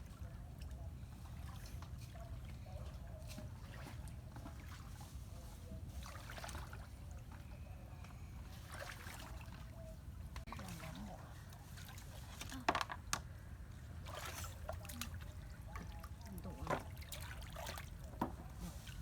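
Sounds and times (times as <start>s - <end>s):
water splashing and trickling: 0.0s - 7.8s, 8.4s - 19.0s.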